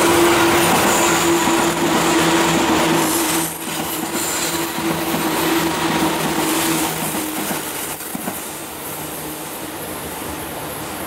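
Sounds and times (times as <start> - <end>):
electric train passing: 0.0 - 11.0
wheels rushing on rails: 0.0 - 11.0.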